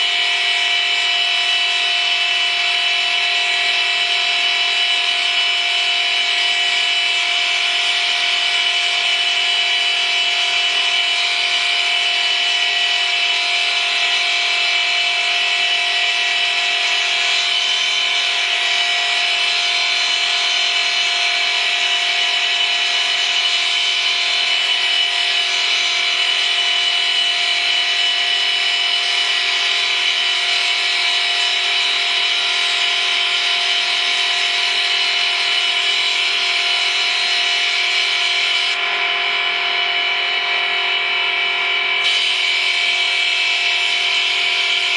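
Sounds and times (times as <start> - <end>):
stone cutting machine grinding: 6.4 - 44.9.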